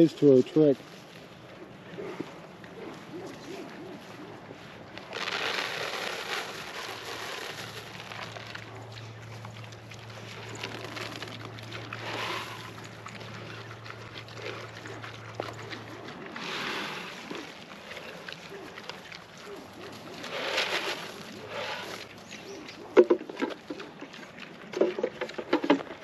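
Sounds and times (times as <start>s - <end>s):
pigs crunching and slurping: 0.0s - 26.0s.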